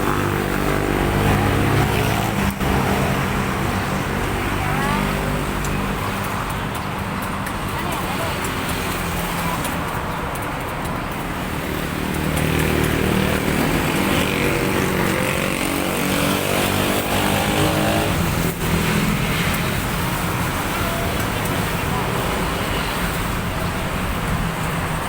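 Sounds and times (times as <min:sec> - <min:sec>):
passing vehicle engine: 0:00.0 - 0:25.0
steady traffic hum: 0:00.0 - 0:25.0.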